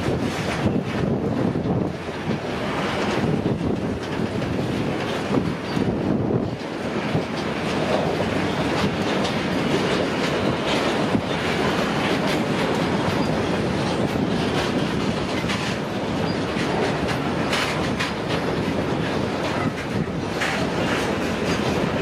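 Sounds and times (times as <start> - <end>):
train wheels clattering over joints: 0.0 - 22.0.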